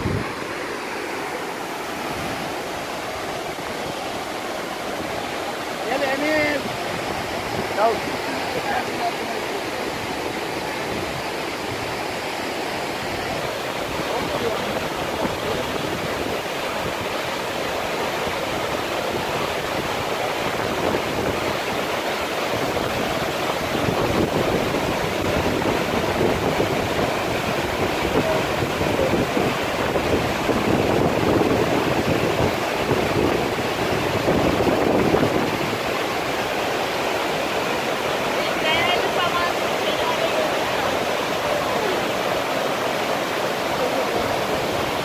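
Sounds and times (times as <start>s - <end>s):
waterfall roaring onto rocks: 0.0s - 45.0s.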